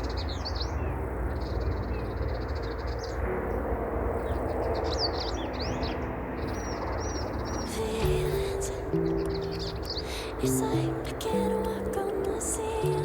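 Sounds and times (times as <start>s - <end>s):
birds chirping and trilling: 0.0s - 13.0s.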